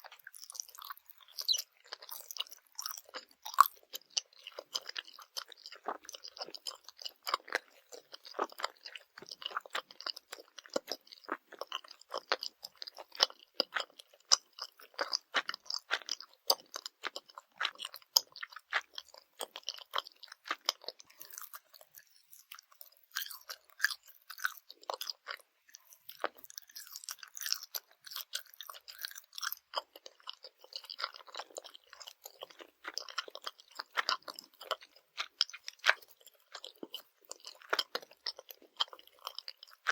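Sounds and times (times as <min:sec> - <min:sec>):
chewing candy: 0:00.0 - 0:39.9.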